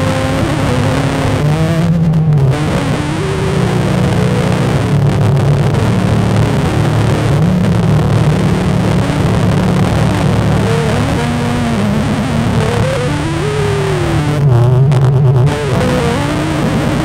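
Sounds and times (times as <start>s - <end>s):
drifting tones: 0.0s - 17.0s
low hum drone: 0.0s - 17.0s
noisy hiss: 0.0s - 17.0s.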